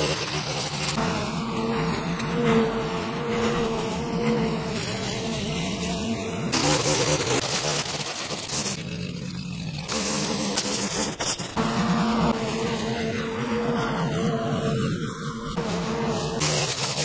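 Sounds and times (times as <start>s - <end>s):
line trimmer engine buzzing: 0.0s - 14.4s, 15.5s - 17.0s.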